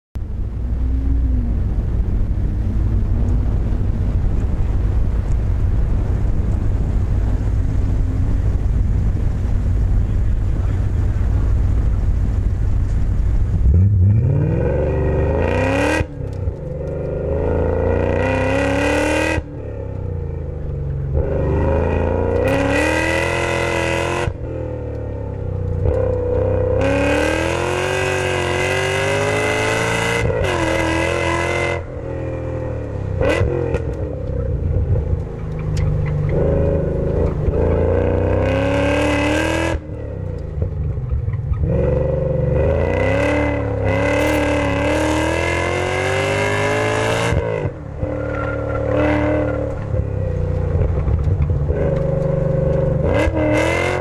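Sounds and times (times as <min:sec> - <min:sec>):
car engine idling and revving: 0:00.2 - 0:54.0.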